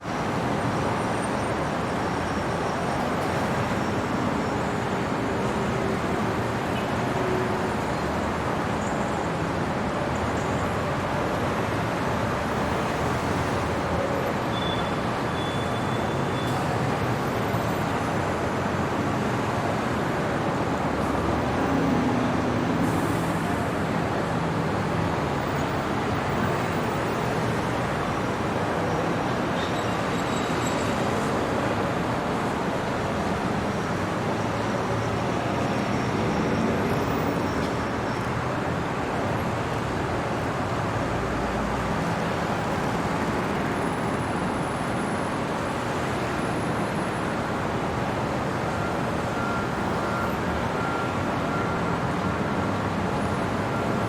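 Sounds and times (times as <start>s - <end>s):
distant city traffic: 0.0s - 54.0s.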